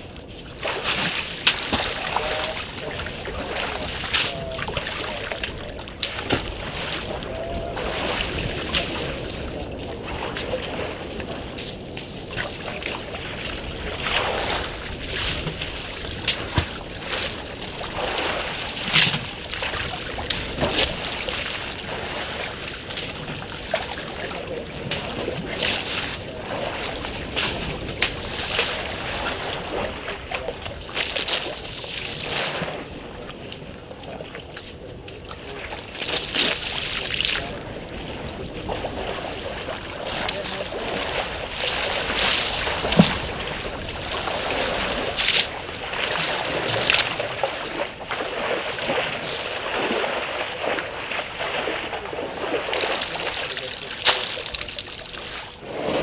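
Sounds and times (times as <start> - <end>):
water splashing and sloshing: 0.0 - 56.0
wind rumble on microphone: 0.0 - 56.0.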